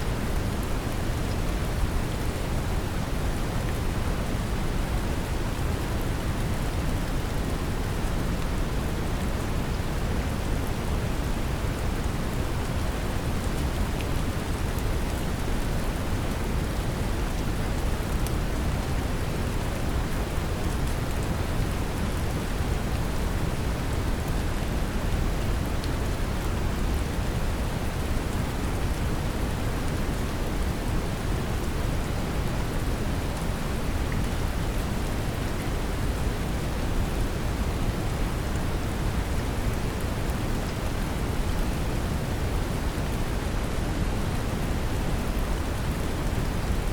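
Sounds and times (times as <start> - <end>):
gentle rain pattering: 0.0 - 46.9.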